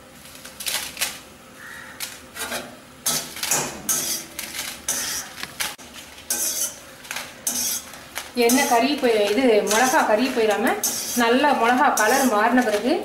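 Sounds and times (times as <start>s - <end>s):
metal spoon scraping a pan: 2.4s - 13.0s.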